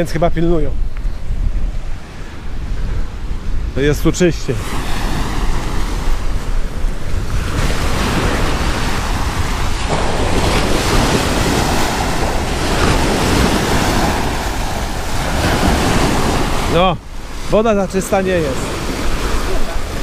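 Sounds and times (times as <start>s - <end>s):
wind buffeting microphone: 0.0s - 20.0s
small waves breaking on beach: 1.8s - 20.0s.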